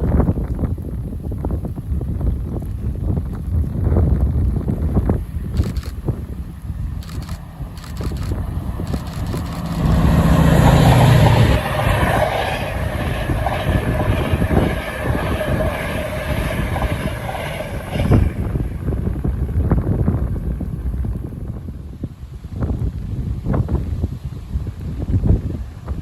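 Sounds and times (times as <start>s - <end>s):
diesel locomotive engine rumbling: 0.0s - 22.3s.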